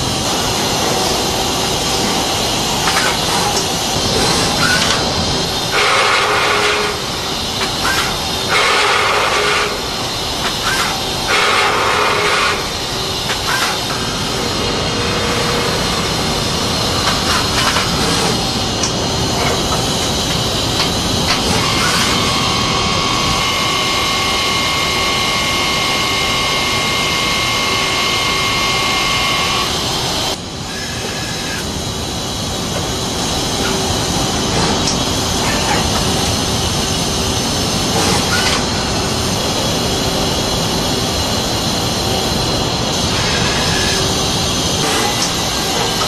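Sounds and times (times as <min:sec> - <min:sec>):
high steady machine whine: 0:00.0 - 0:46.0
lathe machine running: 0:00.0 - 0:46.0.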